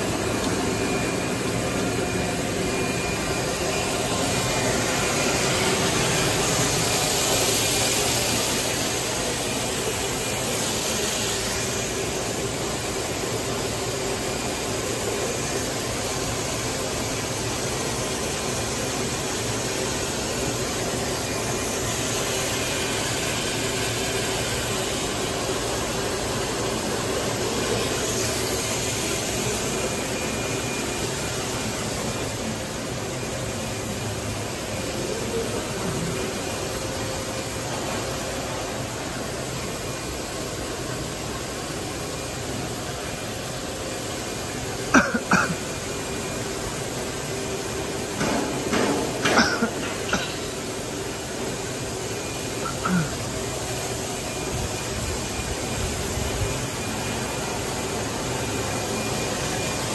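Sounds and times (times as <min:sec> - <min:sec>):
faint constant whine: 0:00.0 - 0:59.9
machine hum and hiss: 0:00.0 - 0:59.9.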